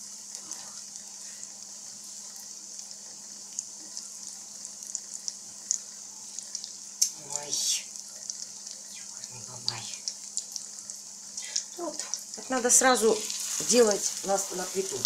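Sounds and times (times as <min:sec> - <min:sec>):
patties sizzling in oil: 0:00.0 - 0:15.0.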